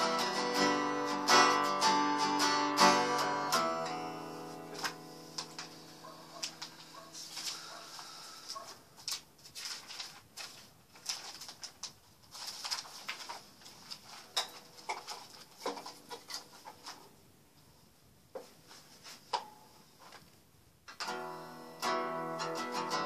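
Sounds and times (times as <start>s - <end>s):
acoustic guitar being handled: 0.0s - 17.2s, 18.3s - 23.0s.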